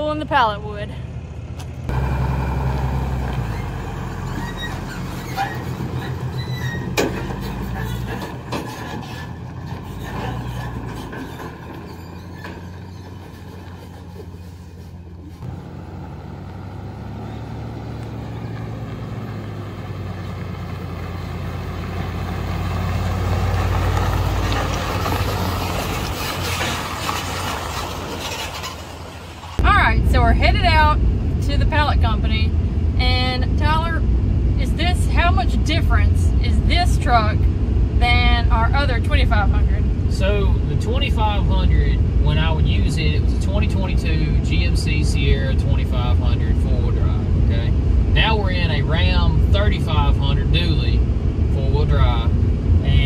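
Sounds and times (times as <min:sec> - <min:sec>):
diesel truck engine droning: 0:00.0 - 0:53.0.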